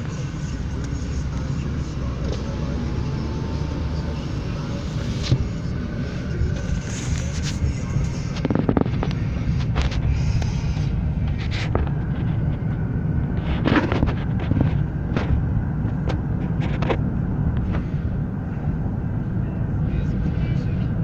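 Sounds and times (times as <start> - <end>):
car road rumble inside cabin: 0.0 - 21.0.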